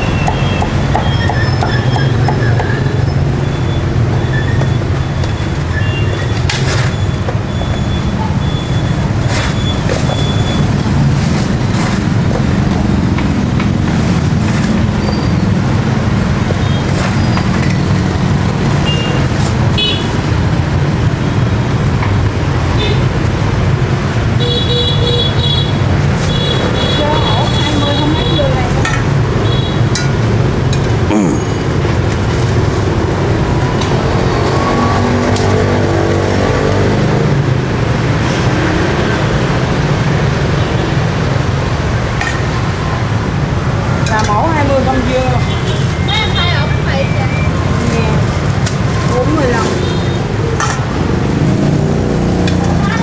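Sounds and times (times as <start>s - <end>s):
street traffic rumble: 0.0s - 53.0s.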